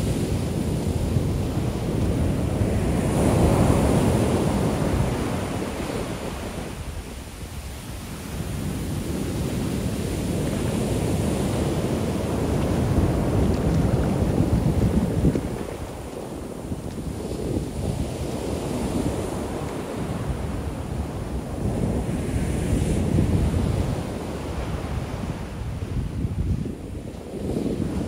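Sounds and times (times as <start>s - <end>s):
waves crashing on beach: 0.0s - 28.0s.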